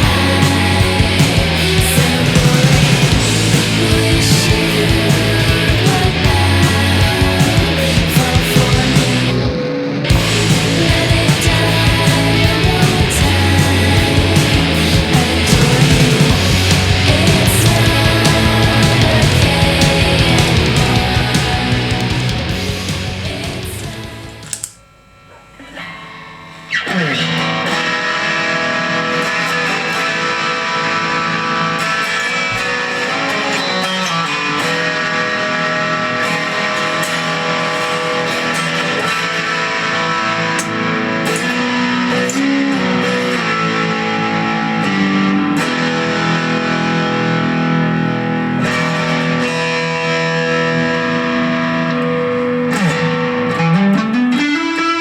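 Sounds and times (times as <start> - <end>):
overdriven electric guitar: 0.0 - 55.0.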